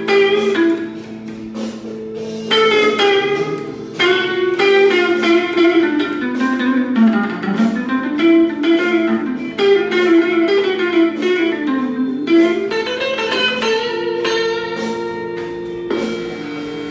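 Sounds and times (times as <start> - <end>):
blues guitar solo: 0.0 - 16.9.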